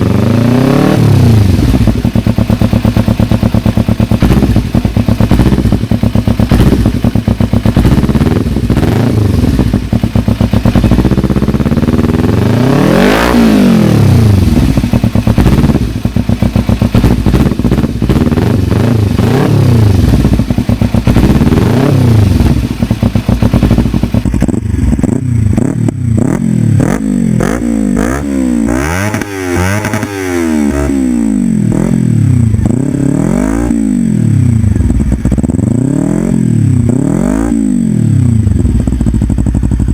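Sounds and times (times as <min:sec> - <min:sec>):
motorcycle engine revving: 0:00.0 - 0:39.9
motorcycle throttle blips: 0:00.0 - 0:39.9.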